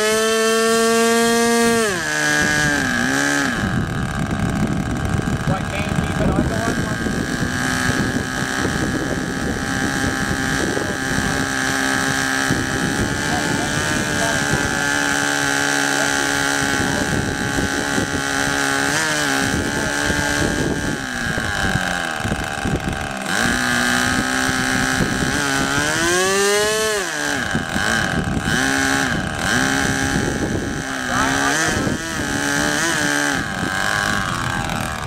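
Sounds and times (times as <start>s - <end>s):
model boat engine idling and revving: 0.0s - 35.0s.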